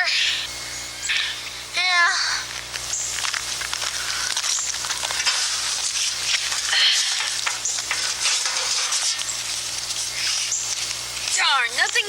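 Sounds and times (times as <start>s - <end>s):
crackling hiss: 0.0s - 12.0s.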